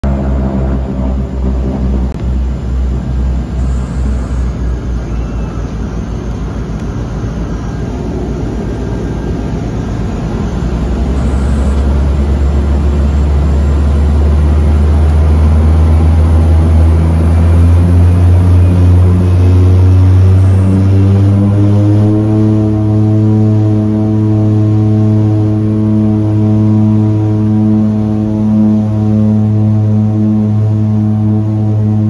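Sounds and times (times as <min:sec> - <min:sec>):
turboprop engine drone in cabin: 0:00.0 - 0:32.0.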